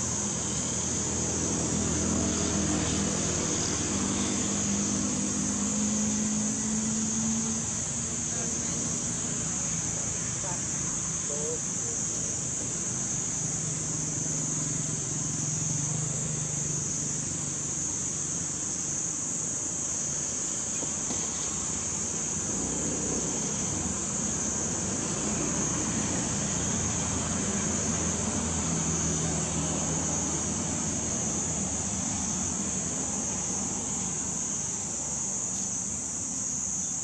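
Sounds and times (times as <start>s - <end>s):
high-pitched insect drone: 0.0s - 37.0s
low rumble of vehicles: 0.0s - 37.0s.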